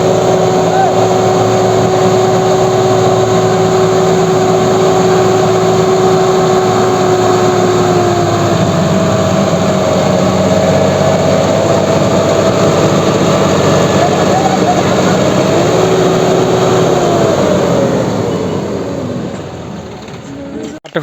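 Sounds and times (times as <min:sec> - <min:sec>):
high whine: 0:00.0 - 0:20.8
diesel engine running: 0:00.0 - 0:21.0.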